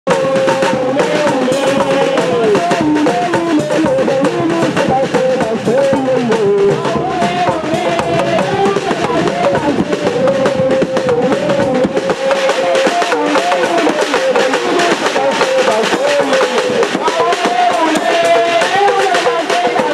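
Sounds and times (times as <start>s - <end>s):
fast live drumming: 0.1s - 19.9s.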